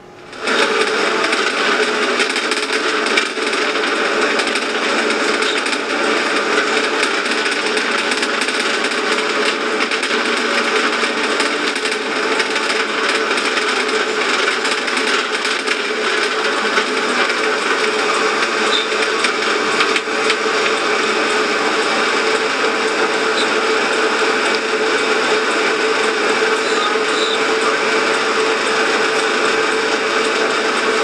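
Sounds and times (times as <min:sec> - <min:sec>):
small motor whirring: 0:00.2 - 0:31.0.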